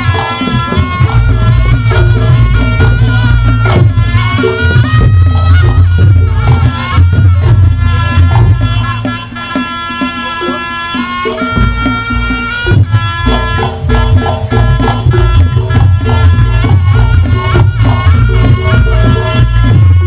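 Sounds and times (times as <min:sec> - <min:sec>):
drums: 0:00.0 - 0:20.0
gongs: 0:00.0 - 0:20.0
shawm playing reedy melody: 0:00.0 - 0:20.0.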